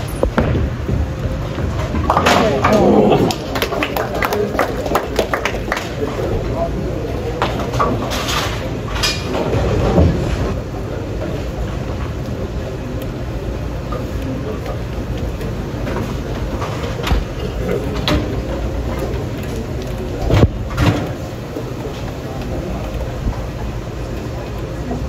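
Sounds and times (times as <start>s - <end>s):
bowling balls rumbling on lanes: 0.0s - 24.8s.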